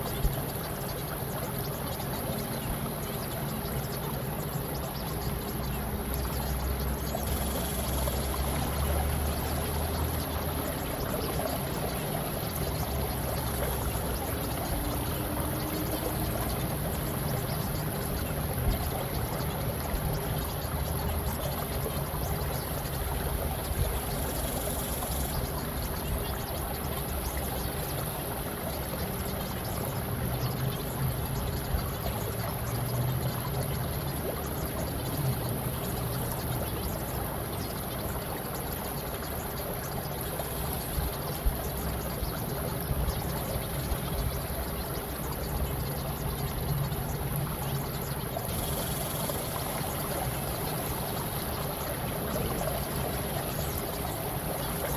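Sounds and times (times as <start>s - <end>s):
faint steady tone: 0.0s - 54.9s
trickling water: 0.0s - 54.9s.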